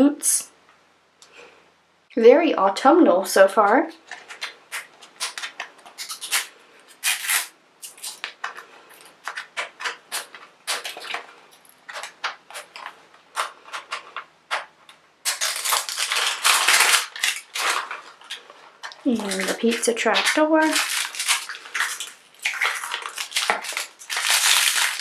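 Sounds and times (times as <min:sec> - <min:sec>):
plastic packaging crinkling: 0:03.9 - 0:25.0.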